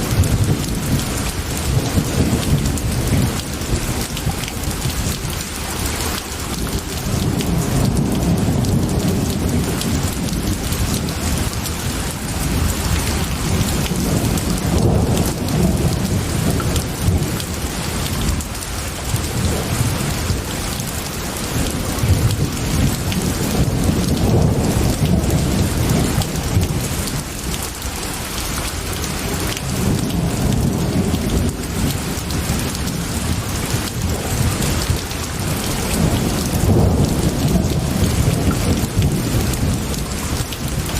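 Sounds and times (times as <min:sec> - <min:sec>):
low rolling thunder: 0:00.0 - 0:05.4, 0:06.4 - 0:27.6, 0:28.7 - 0:40.9
heavy rain: 0:00.0 - 0:40.9.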